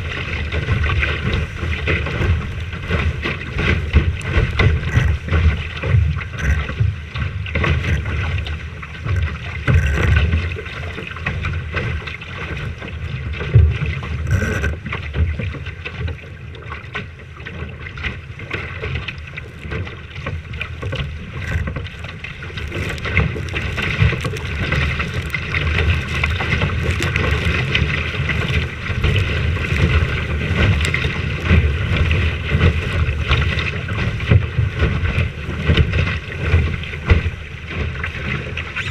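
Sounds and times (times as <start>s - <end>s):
wind buffeting microphone: 0.0s - 15.5s, 19.5s - 38.9s.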